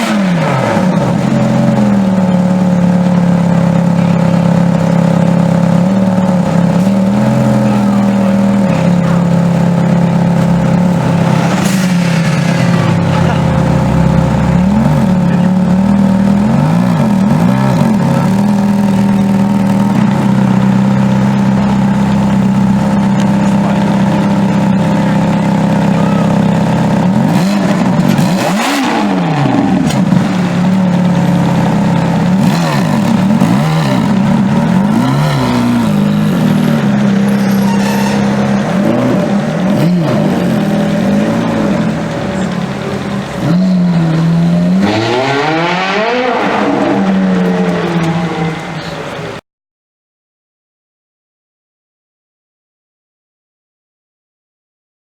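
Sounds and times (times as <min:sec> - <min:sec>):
sports car engine revving: 0:00.0 - 0:49.4.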